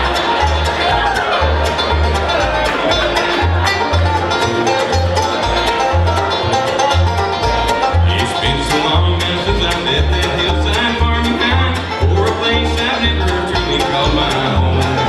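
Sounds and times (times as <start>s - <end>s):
acoustic guitar: 0.0s - 15.0s
bass line: 0.0s - 15.0s
bluegrass band playing: 0.0s - 15.0s.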